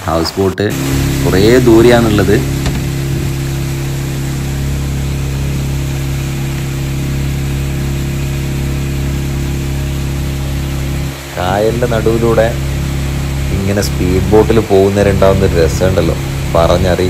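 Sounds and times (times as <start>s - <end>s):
speedboat engine drone: 0.0s - 17.0s
steady hiss: 0.0s - 17.0s.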